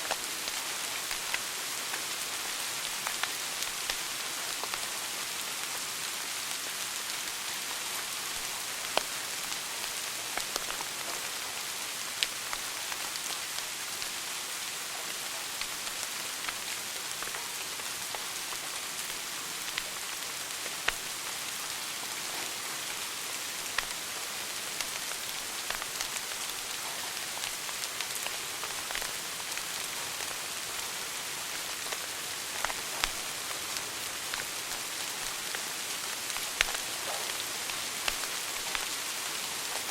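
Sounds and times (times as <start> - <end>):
wood fire hissing and crackling: 0.0 - 39.9.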